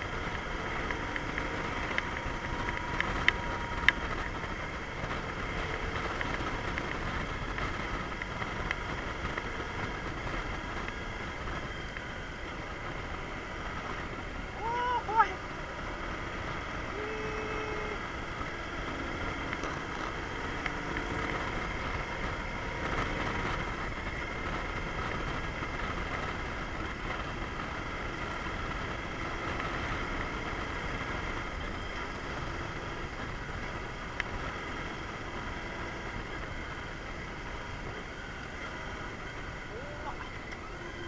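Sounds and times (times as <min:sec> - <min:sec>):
motorcycle engine running: 0:00.0 - 0:41.0
wind and road noise: 0:00.0 - 0:41.0.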